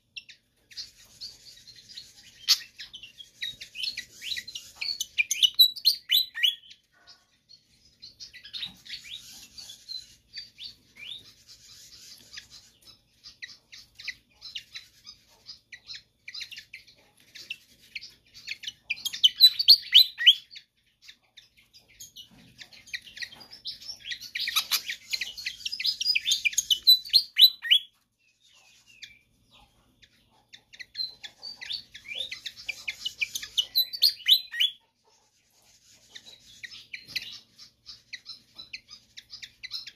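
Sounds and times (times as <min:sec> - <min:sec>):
bird chittering song: 0:00.0 - 0:39.9.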